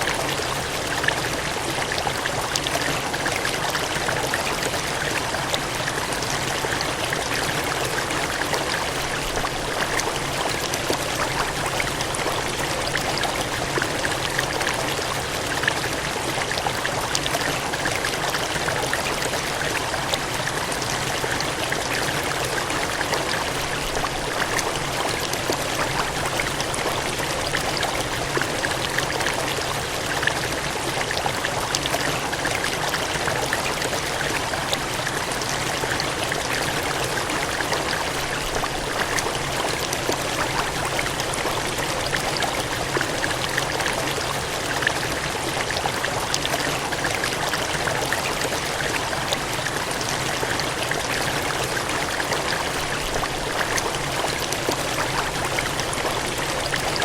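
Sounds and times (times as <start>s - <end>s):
water gushing and splashing: 0.0s - 57.0s.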